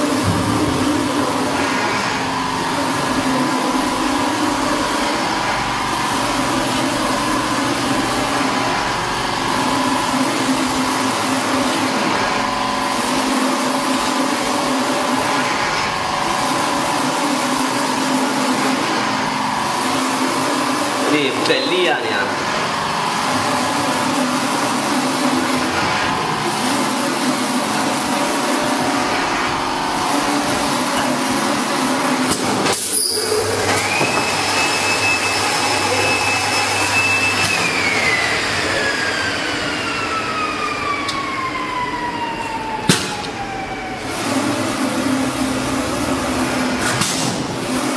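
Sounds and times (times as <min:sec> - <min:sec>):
high machine whine: 0:00.0 - 0:47.9
printing machine running: 0:00.0 - 0:47.9.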